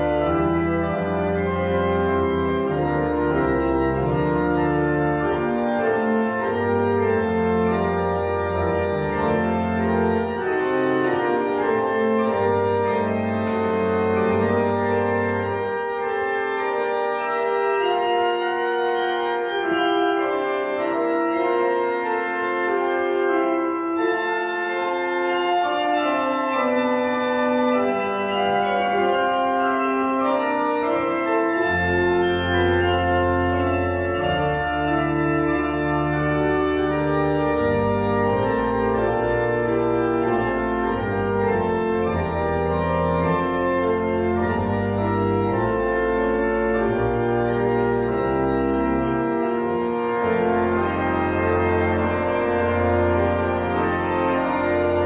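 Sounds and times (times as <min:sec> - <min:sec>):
deep organ pedal bass notes: 0:00.0 - 0:55.0
pipe organ chords: 0:00.0 - 0:55.0.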